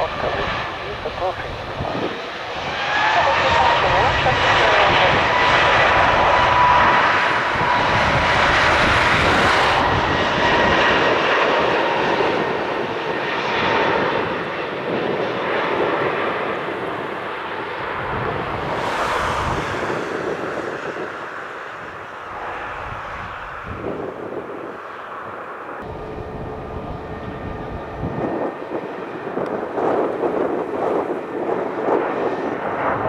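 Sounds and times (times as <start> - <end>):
high engine whine: 0.0 - 29.7
jet airliner passing: 0.0 - 33.0.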